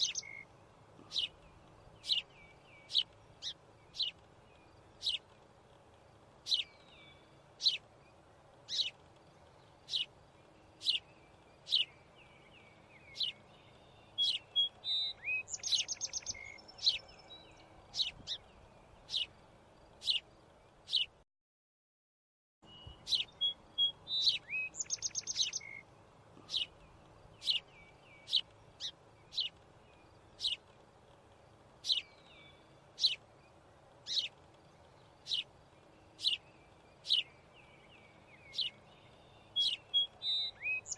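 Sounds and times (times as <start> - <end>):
bird trill: 0.0 - 5.3, 6.4 - 19.4, 20.0 - 21.2, 22.6 - 30.7, 31.8 - 40.9
birds chirping: 0.0 - 21.2, 22.6 - 40.9.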